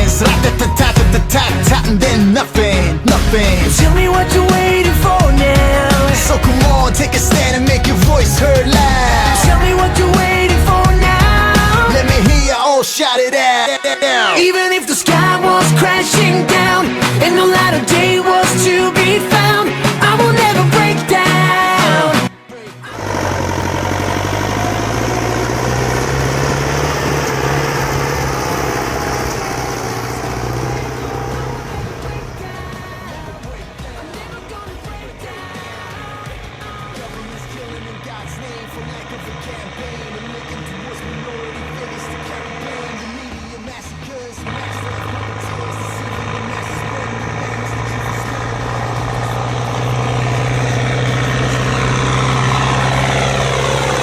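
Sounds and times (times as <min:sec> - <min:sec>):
diesel engine running steadily: 0:00.0 - 0:12.4, 0:22.9 - 0:54.0.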